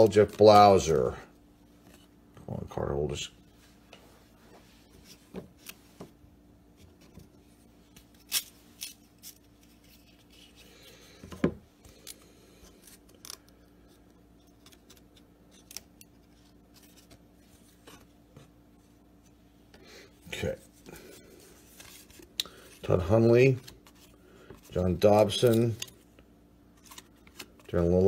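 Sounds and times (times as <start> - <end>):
cards and plastic holders handled: 3.9 - 28.0.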